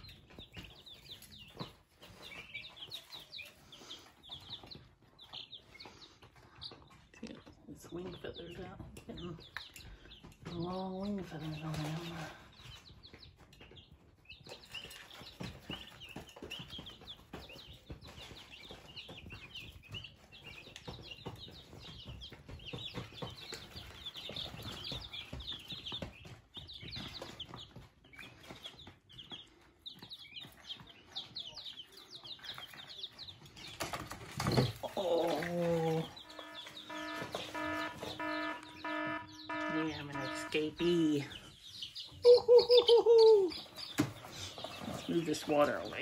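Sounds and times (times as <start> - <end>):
chicks peeping: 0.0 - 46.0.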